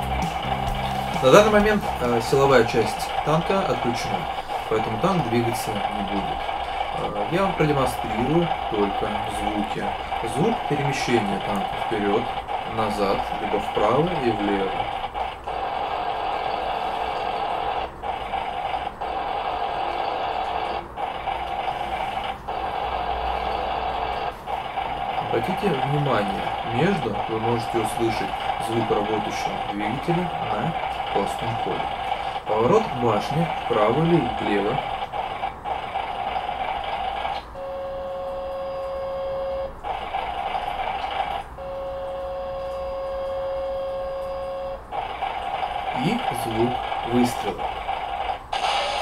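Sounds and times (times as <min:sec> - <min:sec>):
toy tank engine and tracks sound: 0:00.0 - 0:49.0
turret traverse whine: 0:00.0 - 0:49.0.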